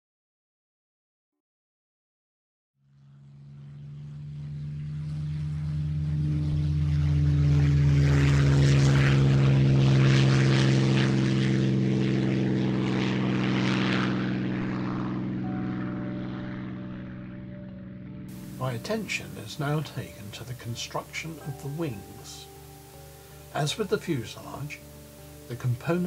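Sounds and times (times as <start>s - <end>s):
propeller aircraft engine drone: 2.8s - 26.0s.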